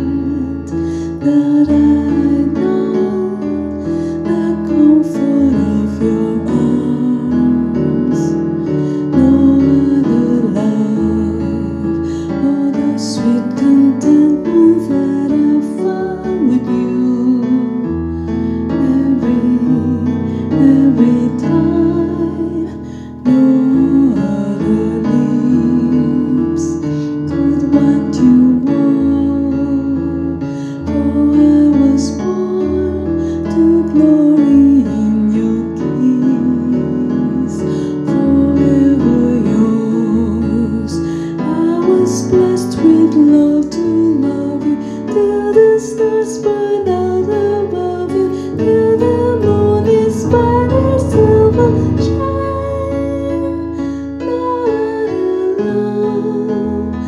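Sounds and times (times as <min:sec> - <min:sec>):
electric piano chords: 0:00.0 - 0:57.0
woman singing a slow ballad: 0:00.0 - 0:57.0.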